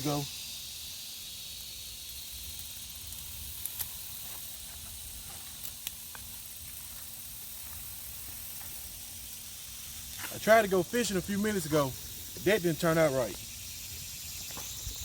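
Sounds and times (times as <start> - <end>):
high-pitched outdoor hiss: 0.0 - 15.0.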